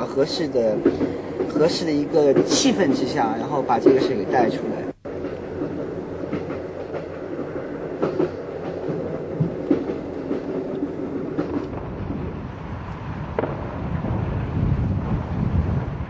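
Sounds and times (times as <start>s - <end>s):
train rumble inside carriage: 0.0s - 16.0s.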